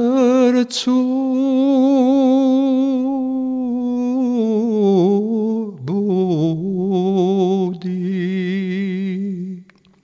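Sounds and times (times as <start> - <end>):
man singing unaccompanied: 0.0 - 9.7.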